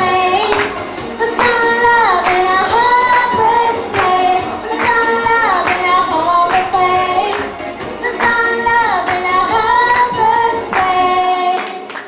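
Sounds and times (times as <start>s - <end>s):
girl singing into microphone: 0.0s - 12.0s.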